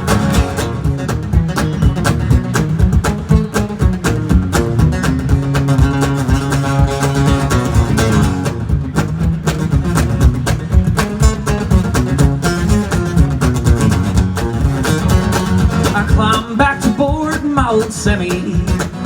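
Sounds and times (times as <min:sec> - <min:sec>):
live country guitar instrumental: 0:00.0 - 0:19.0.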